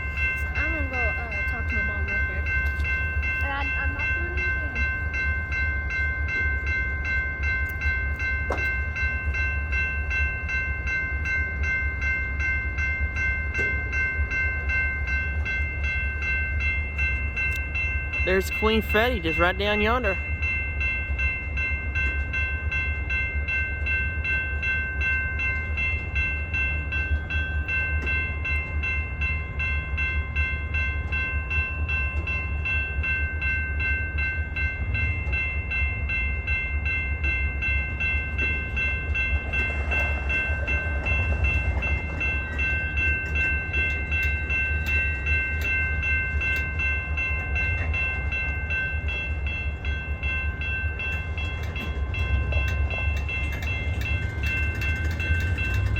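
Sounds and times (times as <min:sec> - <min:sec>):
diesel locomotive rumbling: 0:00.0 - 0:55.9.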